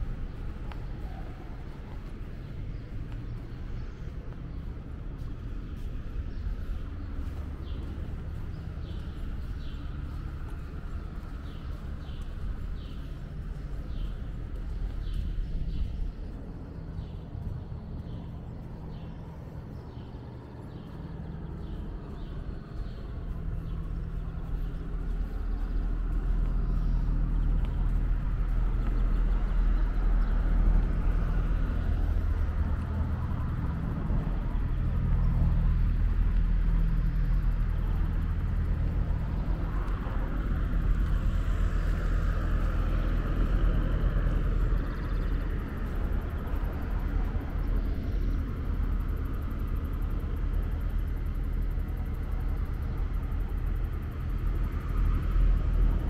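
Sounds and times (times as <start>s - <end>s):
faint footsteps: 0.0s - 46.9s
traffic engine rumble: 0.0s - 56.0s.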